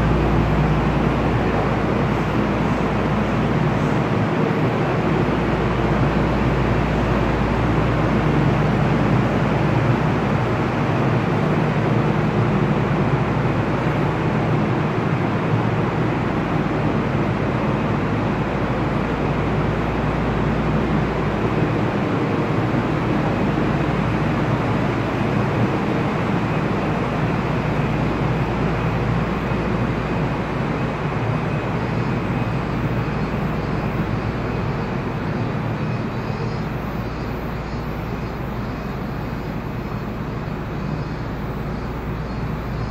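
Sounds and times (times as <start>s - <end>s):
monorail train humming: 0.0s - 42.9s.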